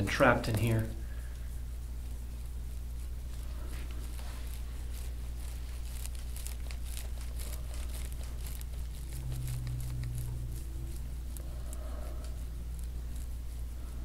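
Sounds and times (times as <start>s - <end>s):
low steady drone: 0.0s - 14.0s
low steady hum: 0.0s - 14.0s
oiled hand kneading skin: 0.0s - 14.0s.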